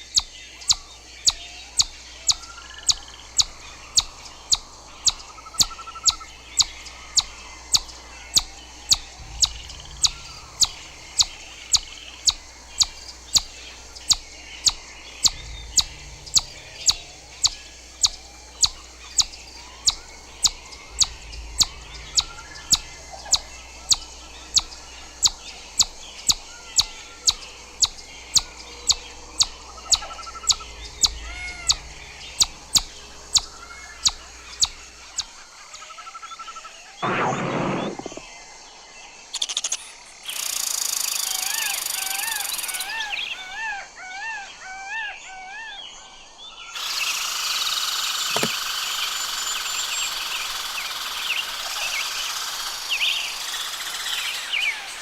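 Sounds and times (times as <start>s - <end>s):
chipmunk chip calls: 0.0s - 38.2s, 39.4s - 43.8s, 46.8s - 55.0s
faint songbird calls: 0.0s - 55.0s.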